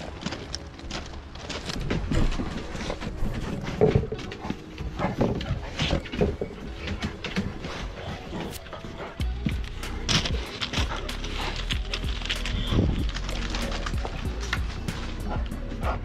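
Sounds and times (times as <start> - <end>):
paws scrabbling on wooden boards: 0.0 - 16.0.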